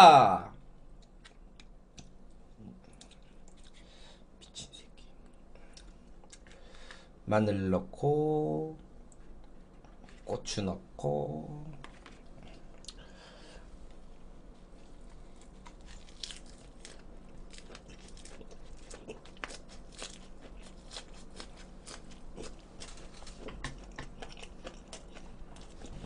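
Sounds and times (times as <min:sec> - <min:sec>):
man chewing food: 0:00.9 - 0:07.1, 0:09.0 - 0:10.3, 0:11.8 - 0:26.0.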